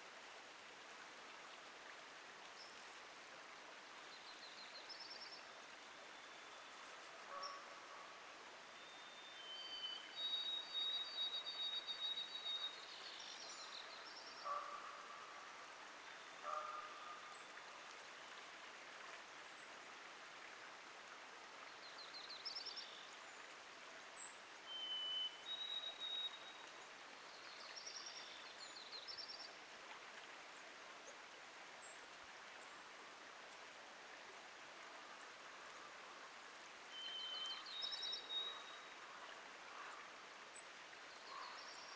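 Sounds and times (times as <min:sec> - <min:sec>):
creek water flowing: 0:00.0 - 0:41.9.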